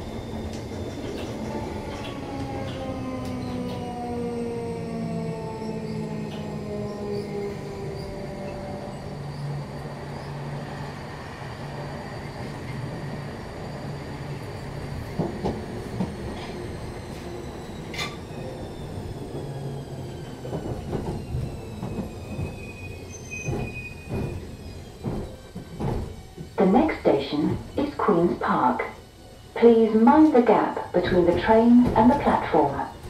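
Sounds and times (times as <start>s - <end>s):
train wheel and rail noise: 0.0s - 33.0s.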